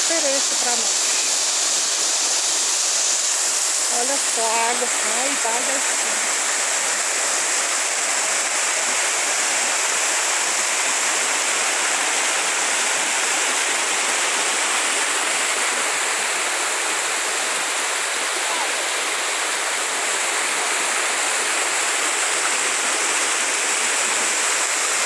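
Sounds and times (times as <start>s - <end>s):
small waterfall splashing: 0.0s - 25.0s
stream running over stones: 0.0s - 25.0s.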